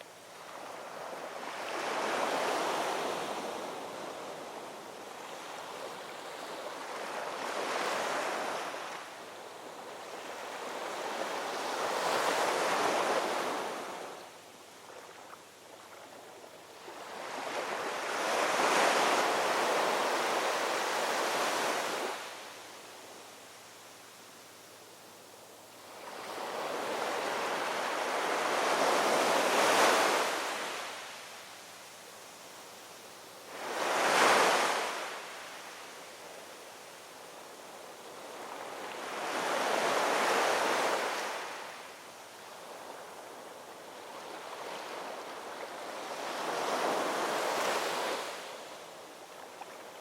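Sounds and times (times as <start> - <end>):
ocean waves breaking on shore: 0.3 - 22.6, 25.8 - 31.4, 33.4 - 36.5, 37.4 - 50.0.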